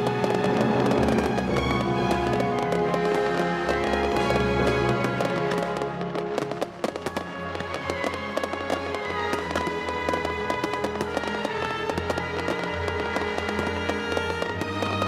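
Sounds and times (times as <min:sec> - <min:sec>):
firework pops and crackles: 0:00.0 - 0:15.0
music: 0:00.0 - 0:15.0.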